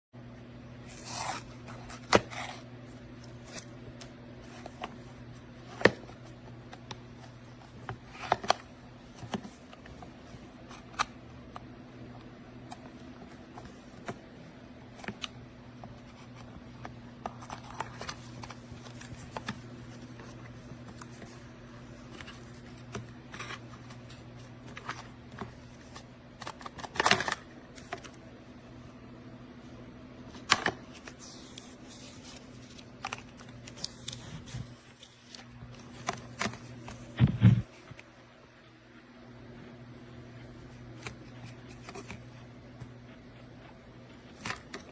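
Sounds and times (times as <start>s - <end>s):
steady low hum: 0.2s - 44.9s.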